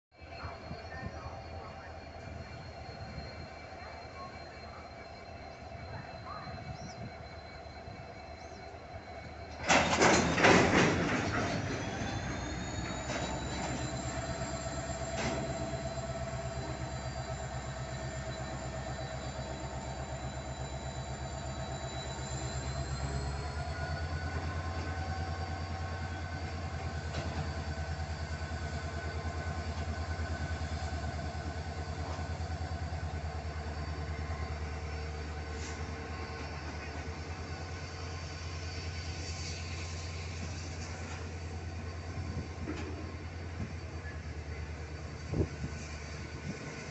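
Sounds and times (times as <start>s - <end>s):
high wheel squeal: 0.2s - 46.9s
train wheels rumbling: 0.2s - 46.9s.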